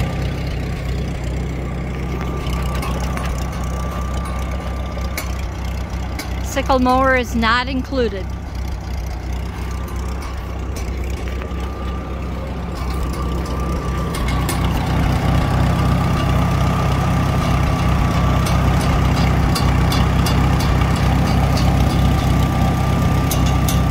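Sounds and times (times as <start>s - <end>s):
tractor engine idling: 0.0s - 23.9s.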